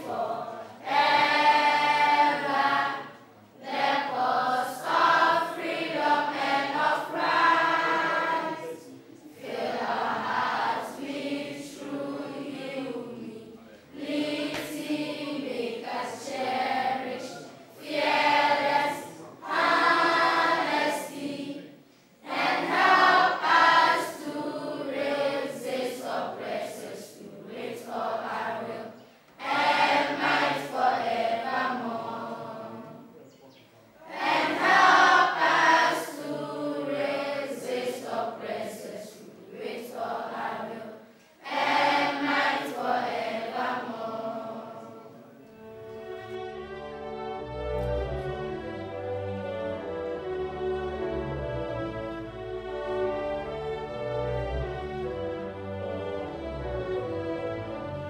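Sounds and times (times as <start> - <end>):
choir singing: 0.0 - 33.2, 34.0 - 58.0.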